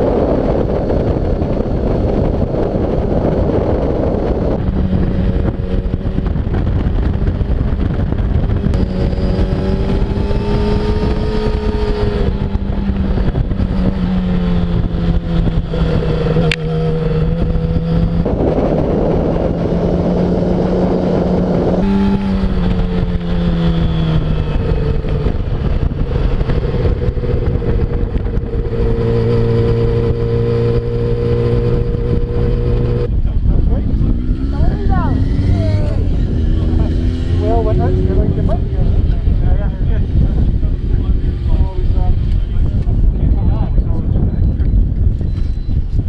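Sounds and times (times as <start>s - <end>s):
motorcycle engine high revving: 0.0s - 46.0s
rushing wind noise: 0.0s - 46.0s.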